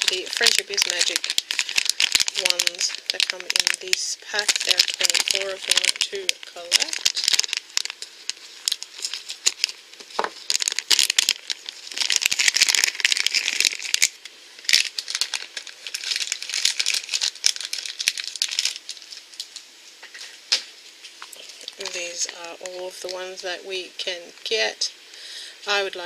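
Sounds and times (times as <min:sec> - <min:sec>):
plastic packaging rustling: 0:00.0 - 0:23.3.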